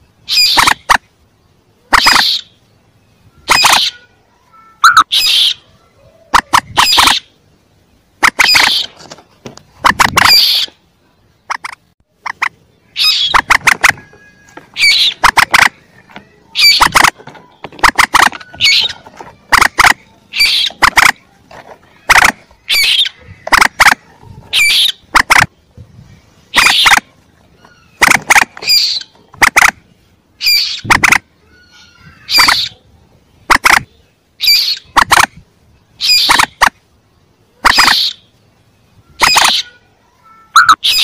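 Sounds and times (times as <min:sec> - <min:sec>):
moorhen squawking: 0:00.3 - 0:01.0, 0:01.8 - 0:02.6, 0:03.4 - 0:07.4, 0:08.2 - 0:09.0, 0:09.8 - 0:10.8, 0:11.5 - 0:25.6, 0:26.4 - 0:29.8, 0:30.4 - 0:35.4, 0:36.0 - 0:36.7, 0:37.6 - 0:38.3, 0:39.0 - 0:41.0.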